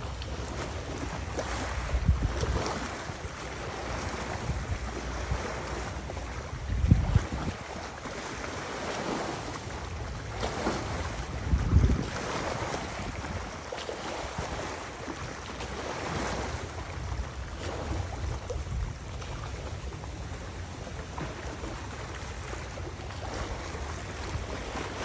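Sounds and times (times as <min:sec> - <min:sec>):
river water rushing: 0:00.0 - 0:25.0
wind gusting across microphone: 0:00.0 - 0:25.0.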